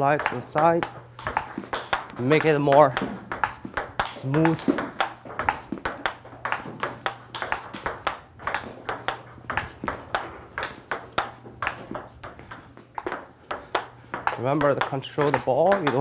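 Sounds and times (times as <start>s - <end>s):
ball bouncing on table: 0.0s - 16.0s
table tennis ball on paddles: 0.0s - 16.0s.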